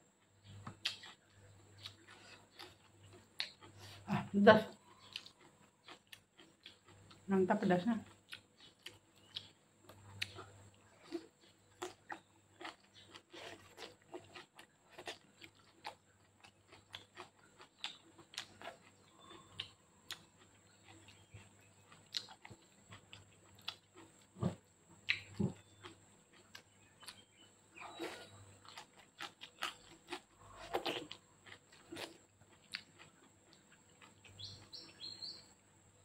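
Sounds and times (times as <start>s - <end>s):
person chewing: 0.2s - 7.3s, 8.0s - 35.4s.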